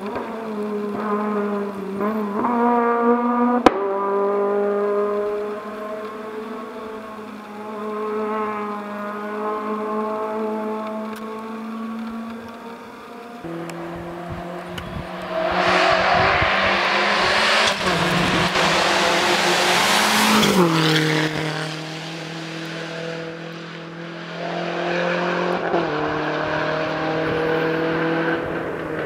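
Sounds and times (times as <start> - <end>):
rally car engine passing: 0.0 - 29.0.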